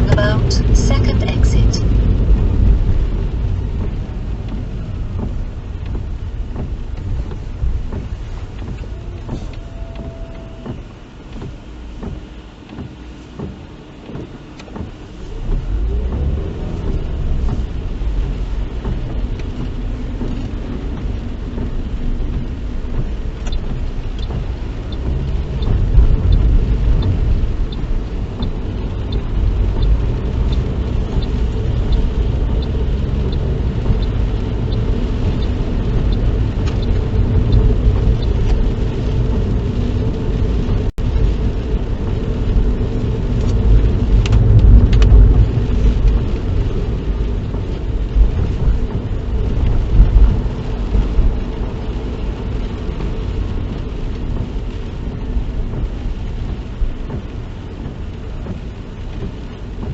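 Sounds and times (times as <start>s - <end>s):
car engine and tyre rumble: 0.0s - 59.9s
faint regular ticking: 0.1s - 59.9s.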